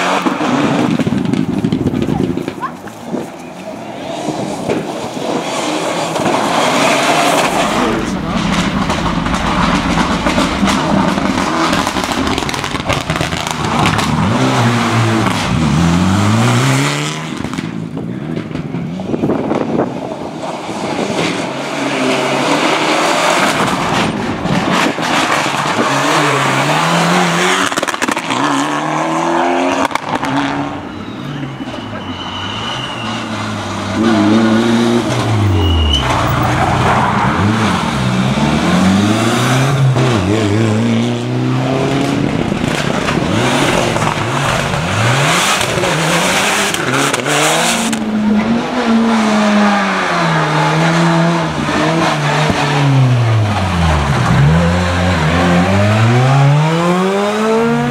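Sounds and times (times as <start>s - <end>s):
rally car engines revving past: 0.0s - 57.9s.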